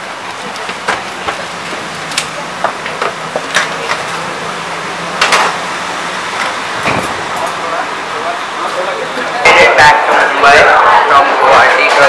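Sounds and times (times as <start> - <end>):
rush and hum of machinery: 0.0 - 12.0.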